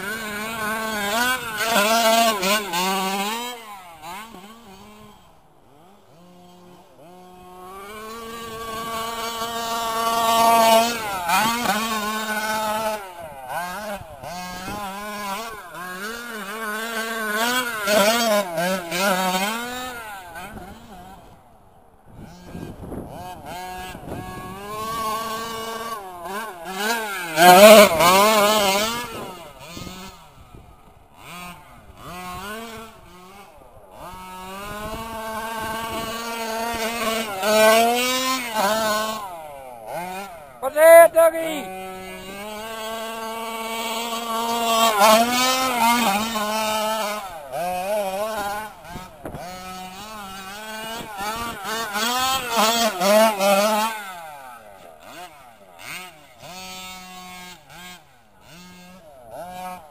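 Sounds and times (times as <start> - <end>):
small two-stroke engine revving: 0.0 - 59.9.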